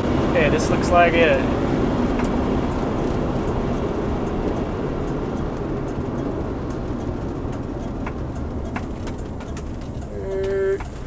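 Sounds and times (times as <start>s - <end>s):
road and engine noise: 0.0s - 11.0s.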